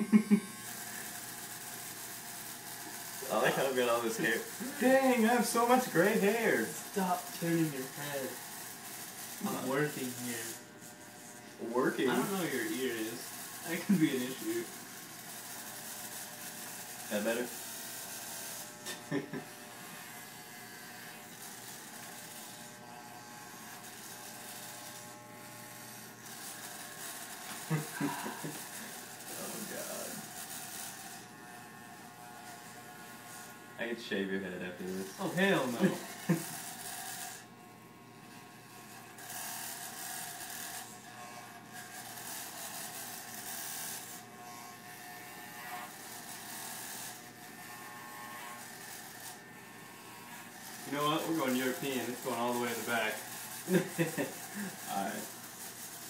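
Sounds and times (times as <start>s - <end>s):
electric hair clippers buzzing: 0.0s - 56.0s.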